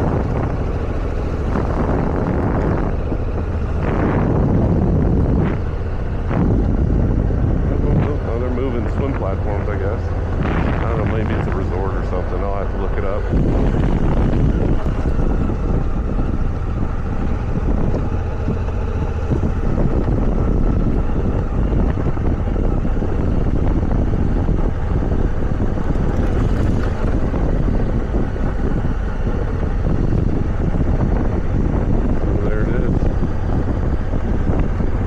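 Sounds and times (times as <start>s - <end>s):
motorcycle engine running: 0.0s - 35.0s
wind noise on microphone: 0.0s - 35.0s.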